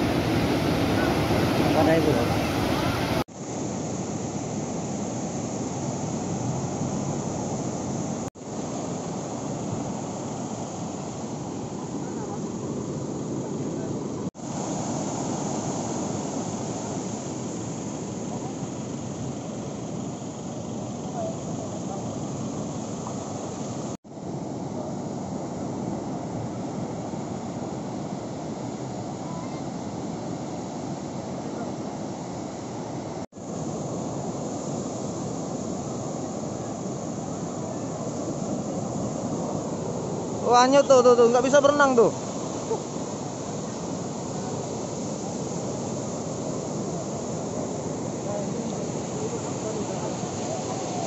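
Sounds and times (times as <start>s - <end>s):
surf breaking on beach: 0.0s - 51.0s
wind: 0.0s - 51.0s.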